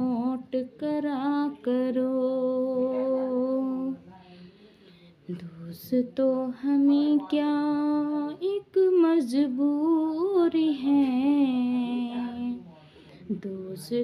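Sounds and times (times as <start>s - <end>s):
woman singing unaccompanied: 0.0s - 4.1s, 5.3s - 12.7s, 13.3s - 14.0s.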